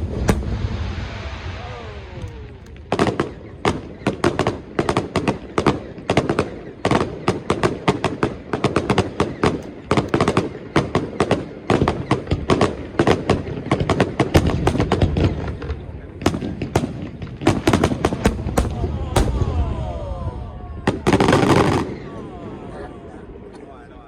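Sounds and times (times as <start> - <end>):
fireworks bangs and cracks: 0.0 - 23.4.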